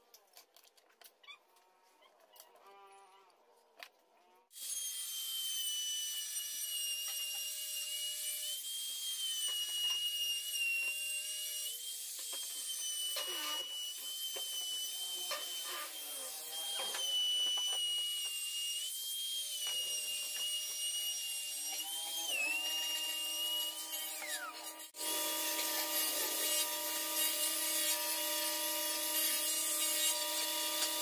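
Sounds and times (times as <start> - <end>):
trim router whining: 4.6 - 31.0.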